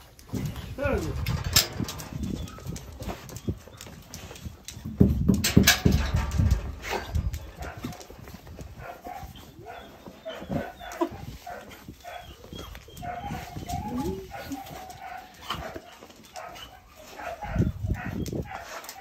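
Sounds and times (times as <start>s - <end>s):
puppies whining and yipping: 1.8s - 5.1s, 6.1s - 19.0s.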